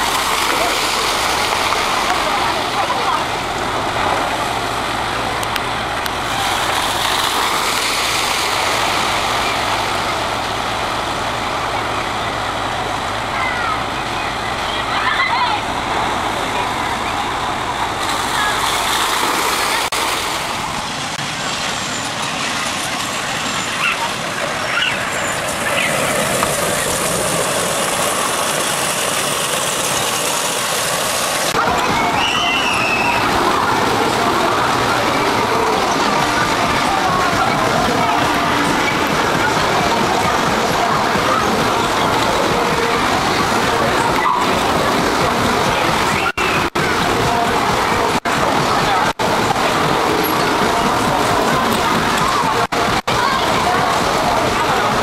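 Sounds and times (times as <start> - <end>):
small train running on track: 0.0 - 55.0
water rushing down a chute: 0.0 - 55.0.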